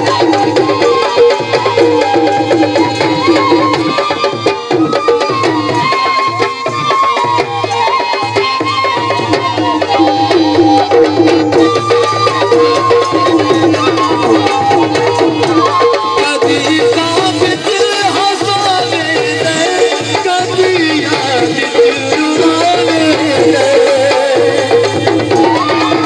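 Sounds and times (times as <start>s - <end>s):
folk music over loudspeakers: 0.0s - 26.0s
hand drum beat: 0.0s - 26.0s.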